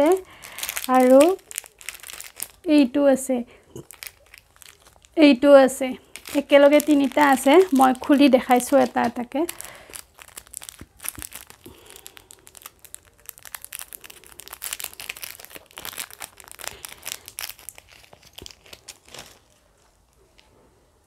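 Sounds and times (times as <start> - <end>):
plastic packet crinkling: 0.0 - 2.7, 3.7 - 20.4.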